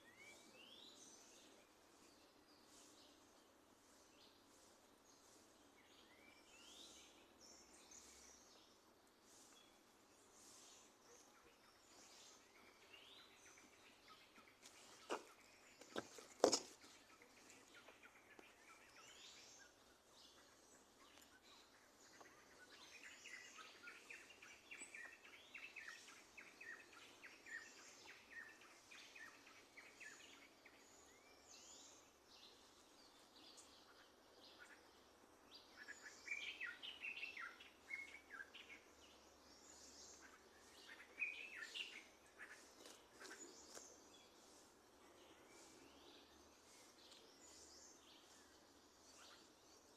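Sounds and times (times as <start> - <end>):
birds chirping: 0.0 - 49.9
low background hiss: 0.0 - 49.9.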